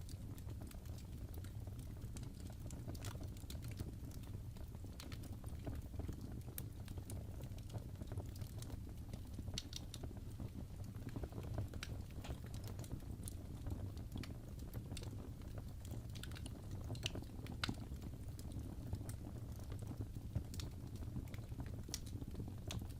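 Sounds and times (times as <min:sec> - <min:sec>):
fire crackles and pops: 0:00.0 - 0:22.9
low rumble of flames: 0:00.0 - 0:22.9.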